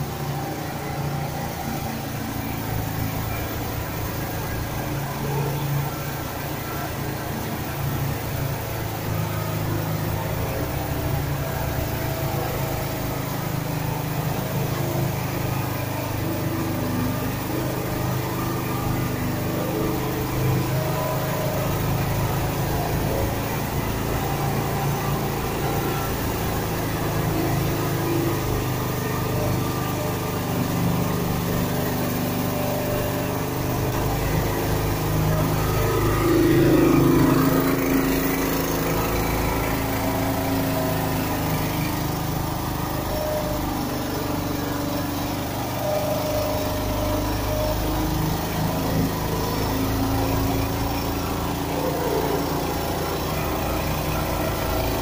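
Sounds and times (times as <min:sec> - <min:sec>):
straw blowing machine engine: 0:00.0 - 0:55.0.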